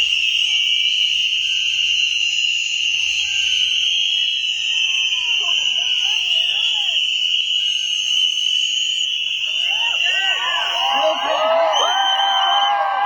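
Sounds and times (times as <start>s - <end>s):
plastic whistles blown: 0.0s - 13.0s.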